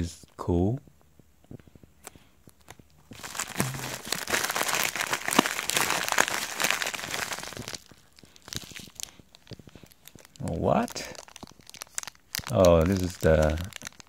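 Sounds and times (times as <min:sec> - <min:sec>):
plastic envelope crinkling: 0:02.5 - 0:14.0.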